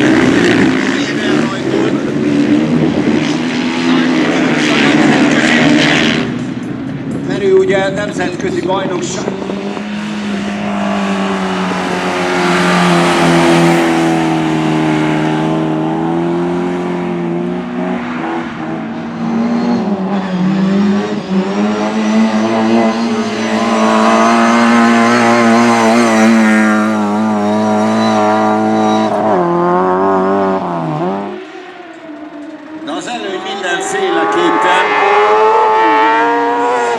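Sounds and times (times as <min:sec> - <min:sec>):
motorcycle engines racing: 0:00.0 - 0:36.9.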